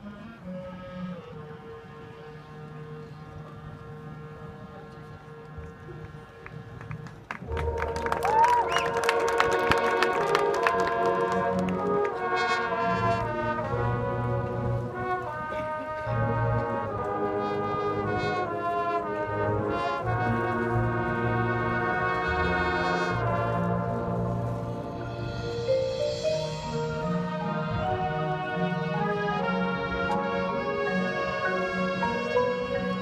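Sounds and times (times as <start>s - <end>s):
brass section playing chords: 0.0s - 33.0s
low brass: 0.0s - 33.0s.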